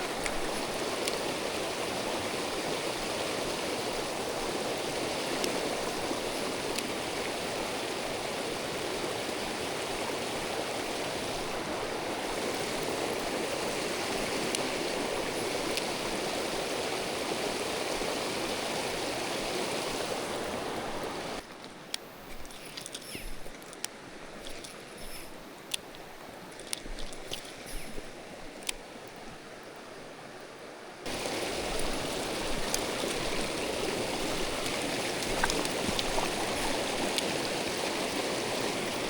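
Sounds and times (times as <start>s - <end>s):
stream rushing over rocks: 0.0s - 21.4s, 27.1s - 39.0s.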